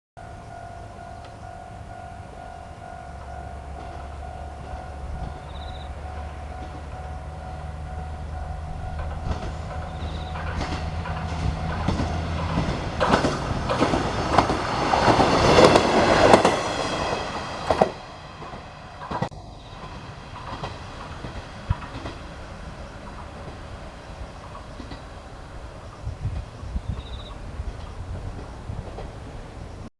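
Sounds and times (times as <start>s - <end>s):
diesel railcar engine humming: 0.2s - 29.9s
wheels clattering over rail joints: 0.4s - 29.9s.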